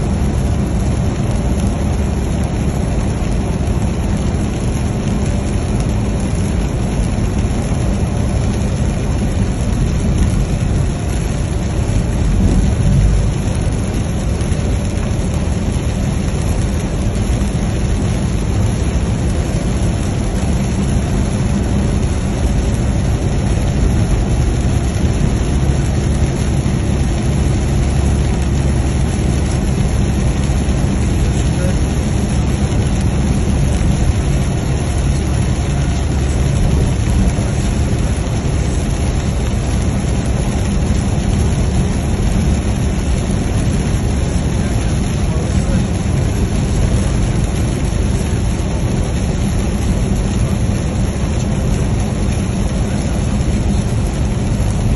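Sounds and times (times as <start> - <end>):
rain beating on windshield: 0.0 - 54.9
road and engine noise: 0.0 - 54.9.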